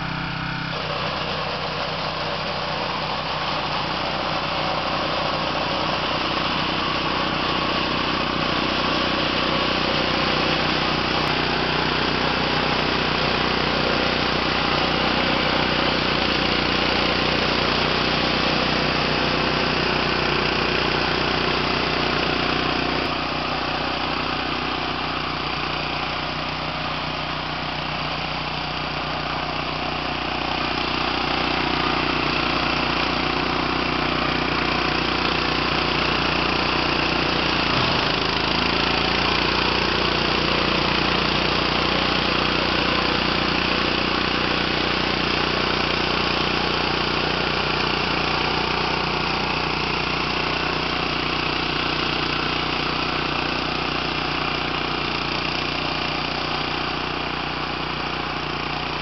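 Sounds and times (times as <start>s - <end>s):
flail mower cutting grass: 0.0s - 59.0s.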